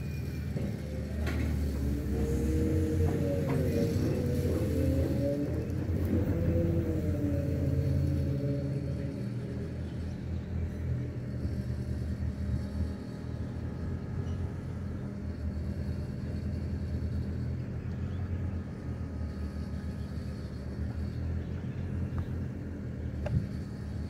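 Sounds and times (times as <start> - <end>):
faint thin whine: 0.0 - 24.0
ferry engine droning: 0.0 - 24.0.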